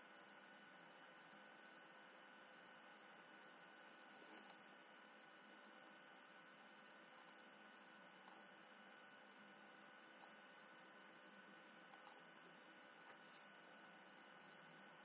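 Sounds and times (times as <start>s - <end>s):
faint electrical hum and hiss: 0.0s - 15.0s.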